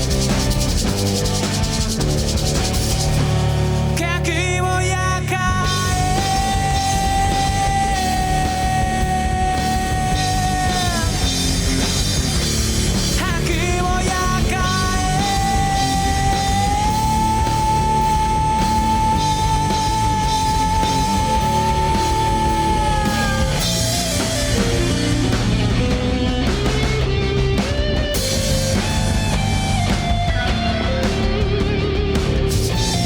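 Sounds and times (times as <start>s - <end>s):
distorted rock band playing: 0.0s - 33.0s.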